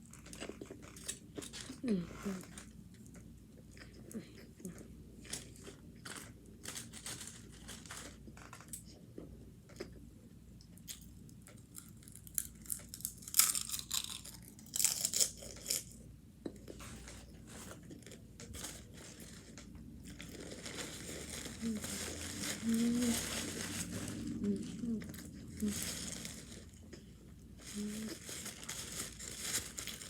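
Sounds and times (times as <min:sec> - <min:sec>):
person chewing and crunching: 0:00.0 - 0:10.0, 0:10.6 - 0:30.0.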